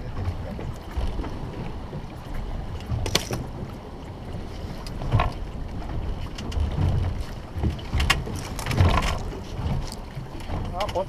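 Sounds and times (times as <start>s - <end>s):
water against boat hull: 0.0s - 11.0s
wind rumbling on microphone: 0.0s - 11.0s.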